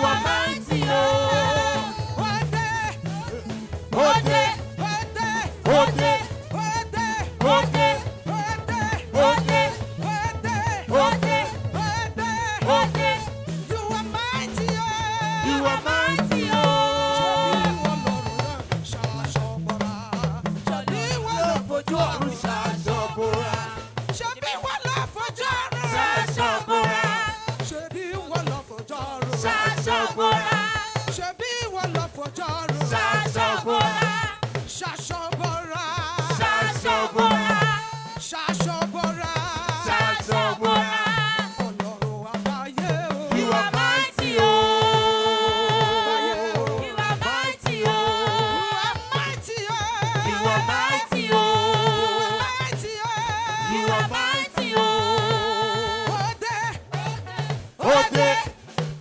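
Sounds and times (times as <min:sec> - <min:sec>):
person singing: 0:00.0 - 0:19.8, 0:20.4 - 0:25.1, 0:25.8 - 0:58.8
gospel band playing: 0:00.0 - 0:59.0.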